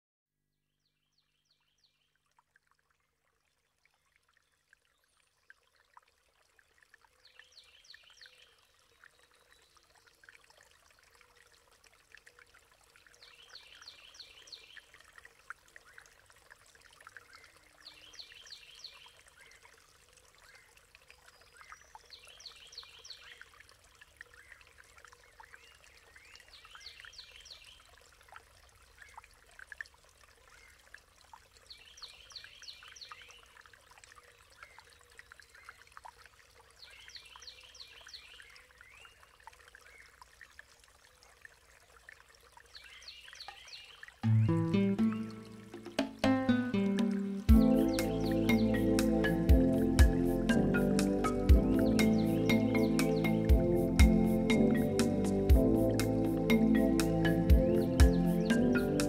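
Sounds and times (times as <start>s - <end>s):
faint trickling water: 0.8s - 59.0s.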